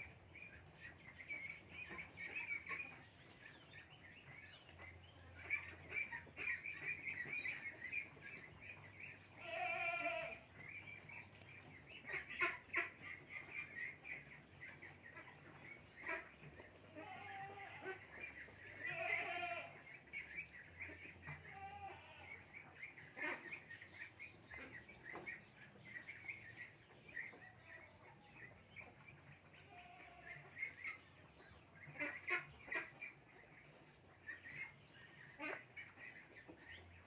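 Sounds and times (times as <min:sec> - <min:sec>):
chicks peeping: 0:00.0 - 0:37.0.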